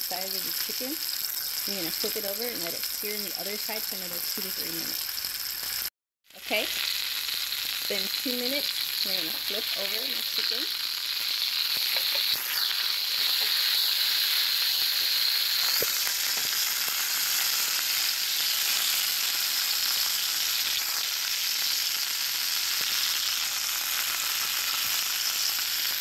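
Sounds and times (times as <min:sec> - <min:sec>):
chicken sizzling in a frying pan: 0:00.0 - 0:26.0.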